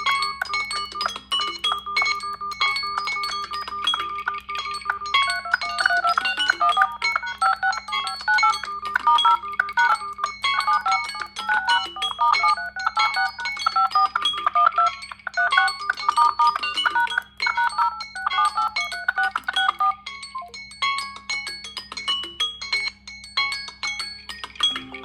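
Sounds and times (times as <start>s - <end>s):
smartphone ringtone tune: 0.0s - 25.0s.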